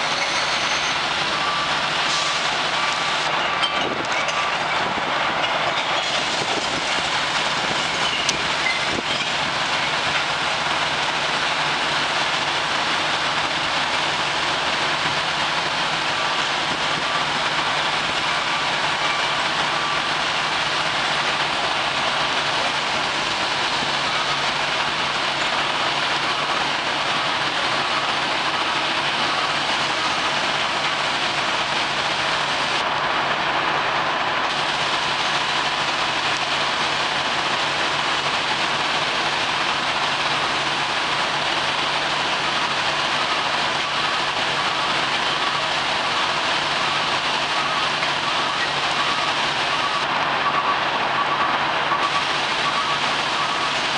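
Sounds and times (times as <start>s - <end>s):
diesel engine hum: 0.0s - 53.9s
hydraulic machinery noise: 0.0s - 53.9s.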